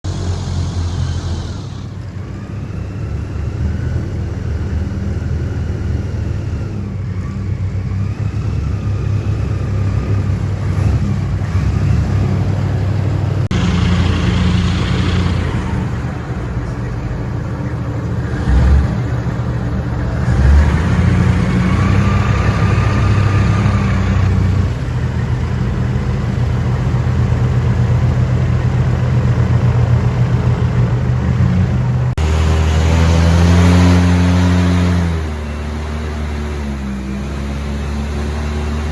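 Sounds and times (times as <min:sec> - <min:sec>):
airboat engine and propeller: 0:00.0 - 0:38.9.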